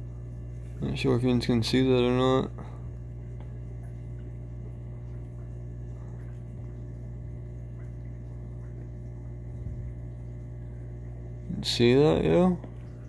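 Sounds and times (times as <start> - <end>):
aquarium equipment hum: 0.0 - 13.0
faint water burbling: 0.0 - 13.0.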